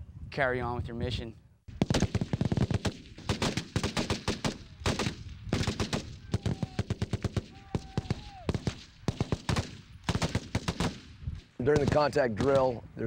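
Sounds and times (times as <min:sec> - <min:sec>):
rapid rifle gunfire: 0:01.7 - 0:12.7.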